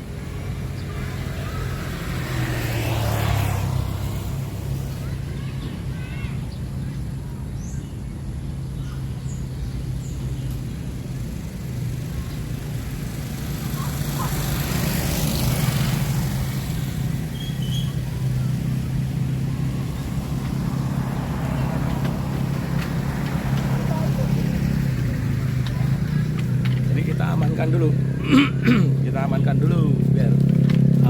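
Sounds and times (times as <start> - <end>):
vehicle passing: 0.0 - 7.6, 8.2 - 31.0
traffic engine hum: 0.0 - 31.0.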